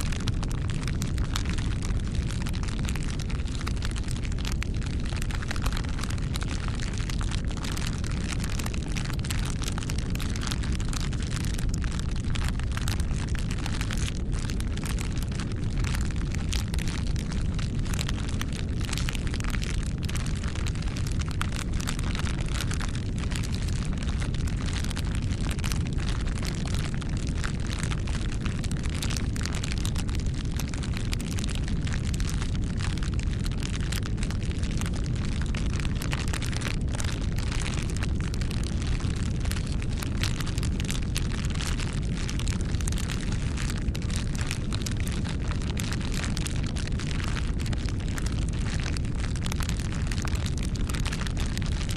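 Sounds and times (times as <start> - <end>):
crackles and pops of burning wood: 0.0 - 51.9
low rumble of flame: 0.0 - 51.9.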